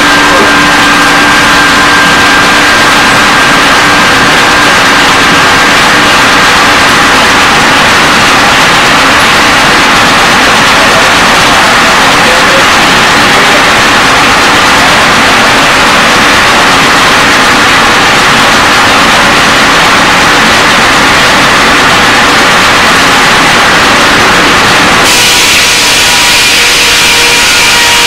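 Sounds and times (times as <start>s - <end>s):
sawmill machinery running: 0.0s - 28.0s
steady whining tones: 0.0s - 28.0s.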